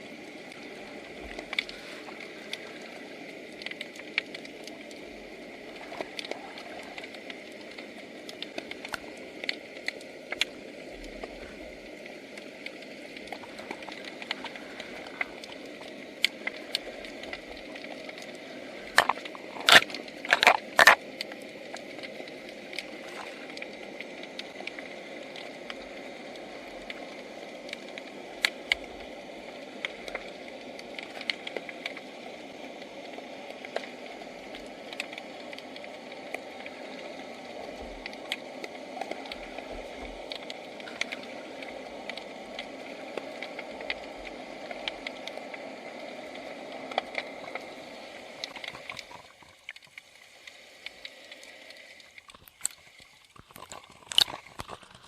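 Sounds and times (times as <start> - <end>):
steady hiss: 0.0 - 55.0
underwater crackling clicks: 0.4 - 55.0.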